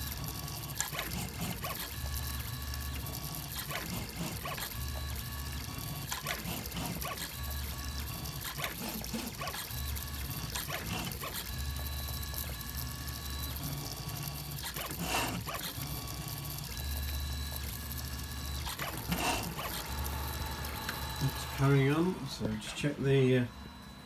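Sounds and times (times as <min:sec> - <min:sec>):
stepper motors whining: 0:00.0 - 0:24.0.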